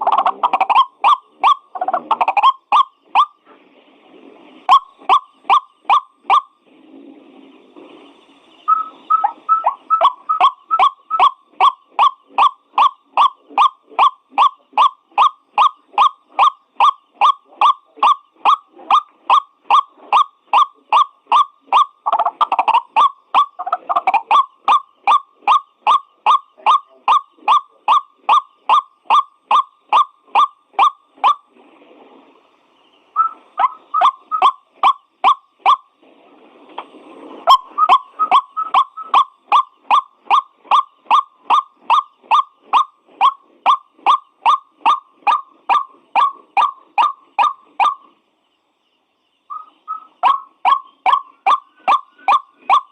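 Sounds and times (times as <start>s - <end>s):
waterhen repeated call: 0.0s - 3.4s, 4.7s - 6.5s, 8.7s - 31.5s, 33.2s - 35.9s, 37.5s - 48.1s, 49.5s - 52.9s.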